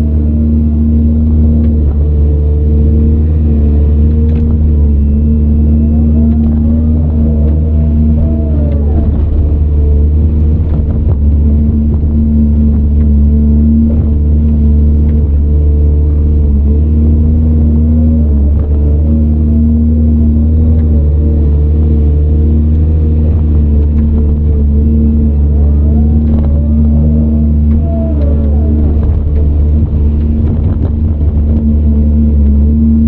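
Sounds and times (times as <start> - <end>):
diesel excavator engine running: 0.0 - 33.0
wavering whine: 0.0 - 33.0.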